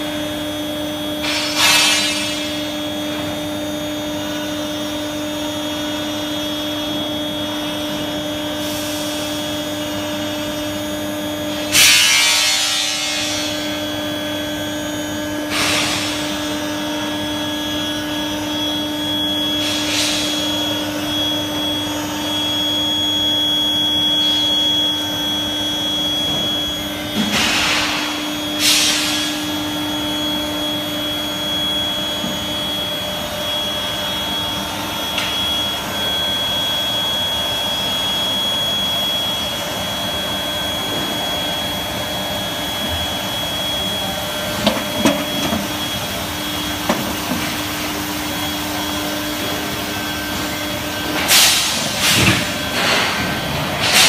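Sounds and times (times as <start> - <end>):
high steady whine: 0.0 - 54.0
machine hum: 0.0 - 54.0.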